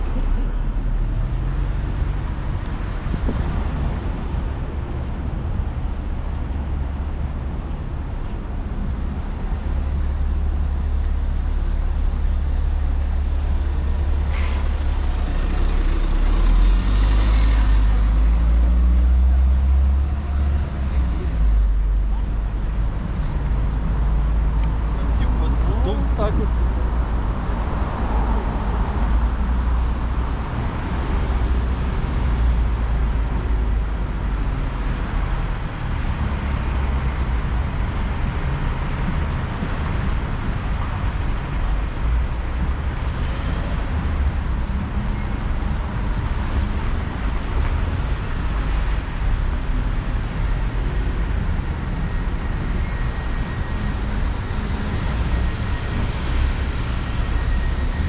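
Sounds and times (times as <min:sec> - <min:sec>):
passing cars and buses: 0:00.0 - 0:58.0.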